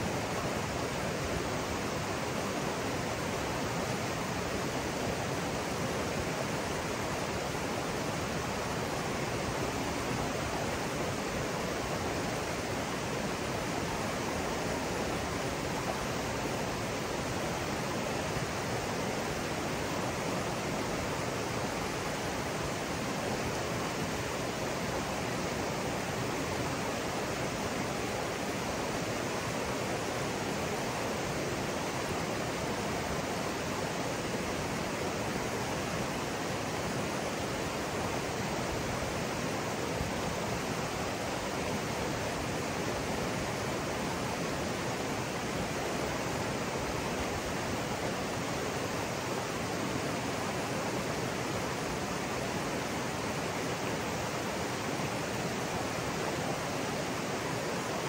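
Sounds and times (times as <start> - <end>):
river water rushing over rocks: 0.0 - 58.0.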